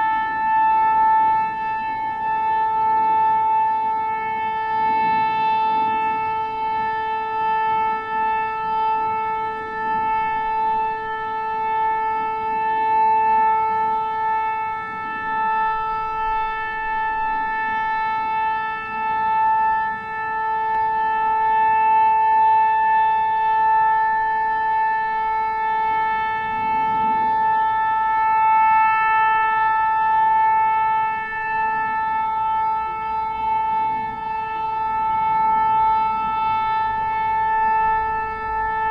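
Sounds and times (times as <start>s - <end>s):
steady alarm tone: 0.0s - 38.9s.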